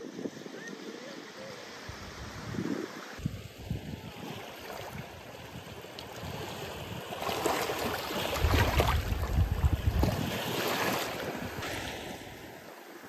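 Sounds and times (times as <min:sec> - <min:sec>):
waves washing over rocks: 0:02.2 - 0:13.0.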